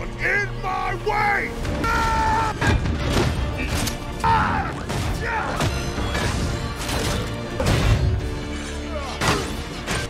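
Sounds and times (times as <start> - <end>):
dramatic orchestral music: 0.0 - 10.0.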